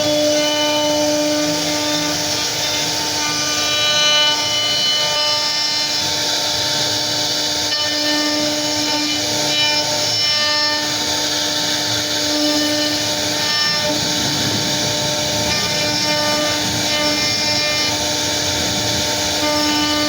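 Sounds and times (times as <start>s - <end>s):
bit carving wood: 0.0s - 20.0s
router spindle whining: 0.0s - 20.0s.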